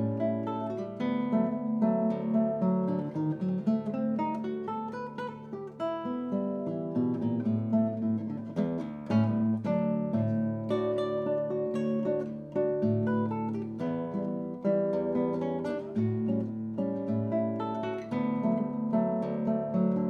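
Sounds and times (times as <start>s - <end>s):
fingerpicked acoustic guitar: 0.0s - 20.0s.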